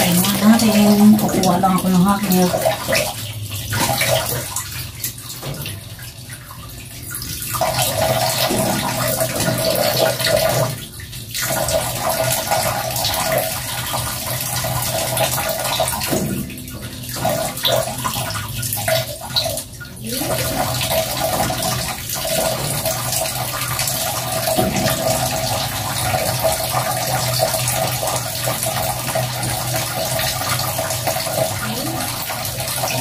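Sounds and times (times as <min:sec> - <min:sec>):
water splashing into basin: 0:00.0 - 0:33.0.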